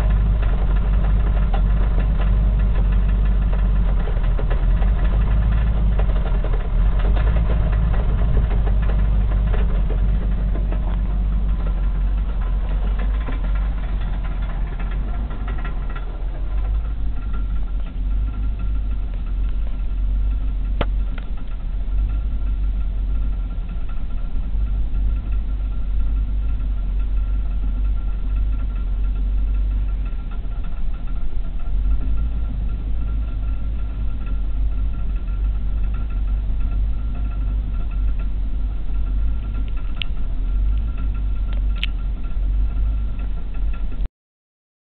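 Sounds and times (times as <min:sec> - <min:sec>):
car engine running: 0:00.0 - 0:44.1
faint high whine: 0:00.0 - 0:44.1.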